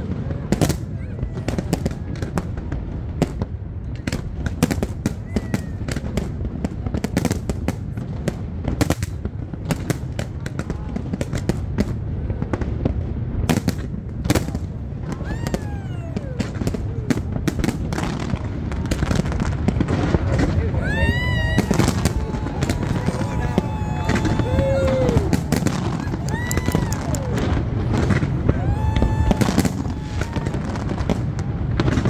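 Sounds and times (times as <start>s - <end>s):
fireworks bangs and cracks: 0.0s - 32.0s
steady low rumble: 6.0s - 32.0s.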